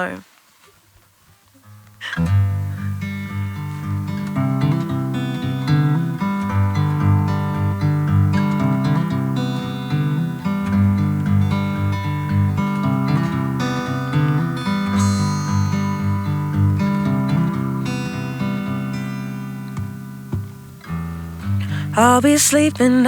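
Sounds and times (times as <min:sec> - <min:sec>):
acoustic guitar strumming chords: 0:01.6 - 0:23.0.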